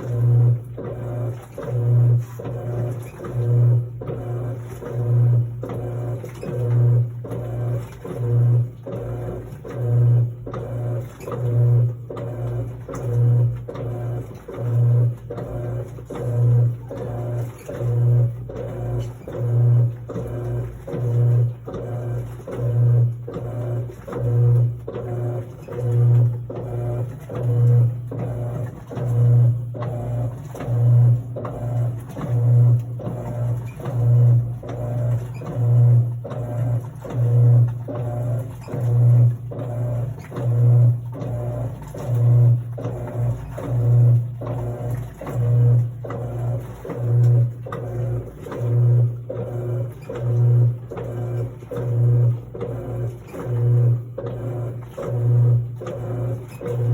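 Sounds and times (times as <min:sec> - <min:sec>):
washing machine motor hum: 0:00.0 - 0:56.9.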